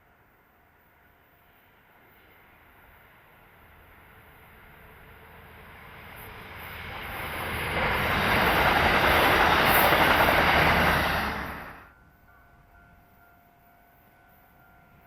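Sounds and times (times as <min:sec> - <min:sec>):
train passing on rails: 0:00.0 - 0:15.0.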